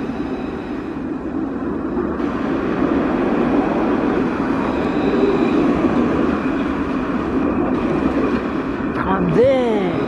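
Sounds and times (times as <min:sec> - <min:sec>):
faint high whine: 0:00.0 - 0:09.0
tram wheels rumbling on rail: 0:00.0 - 0:10.0.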